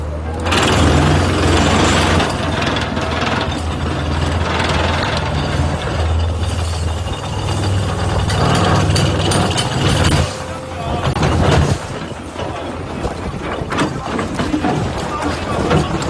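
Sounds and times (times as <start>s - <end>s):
diesel engine droning: 0.0s - 16.0s
ripper clattering and rattling: 0.4s - 16.0s.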